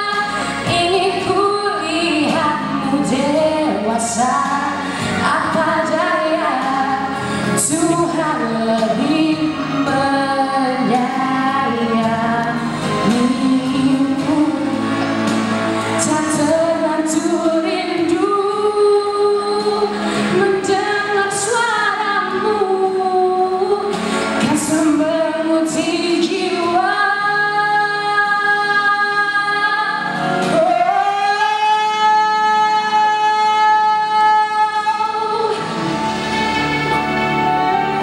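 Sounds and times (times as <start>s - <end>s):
girl singing: 0.0s - 14.8s, 16.0s - 35.6s.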